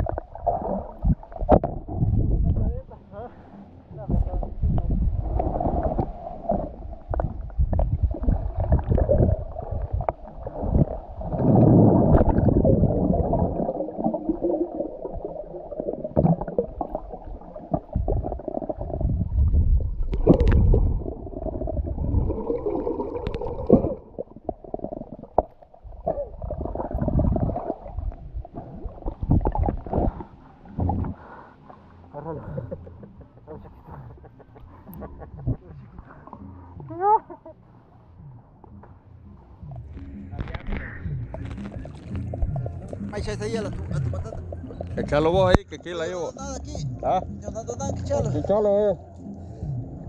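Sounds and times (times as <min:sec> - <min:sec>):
knocks and bumps underwater: 0:00.0 - 0:02.8, 0:04.1 - 0:31.2, 0:34.1 - 0:37.0, 0:38.2 - 0:50.0
muffled underwater sloshing: 0:00.0 - 0:50.0.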